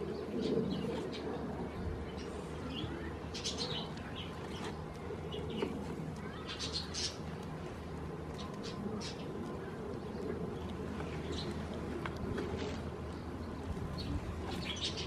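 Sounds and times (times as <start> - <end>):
low background rumble: 0.0 - 15.0
songbirds chirping: 0.0 - 15.0.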